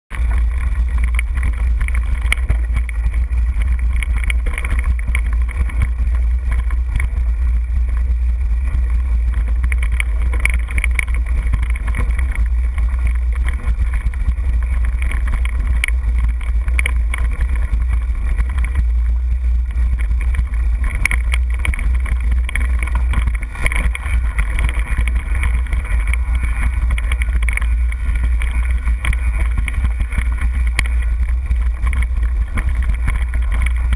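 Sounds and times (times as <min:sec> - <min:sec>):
bike knocking and rattling: 0:00.1 - 0:33.9
wind rumble on microphone: 0:00.1 - 0:33.9.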